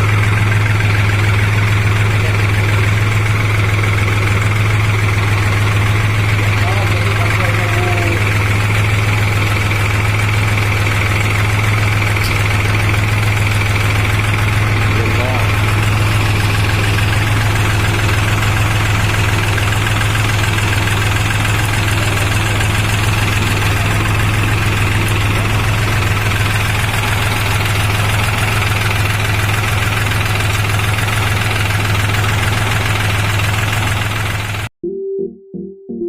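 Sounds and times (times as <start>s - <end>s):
tractor diesel engine running: 0.0s - 34.7s.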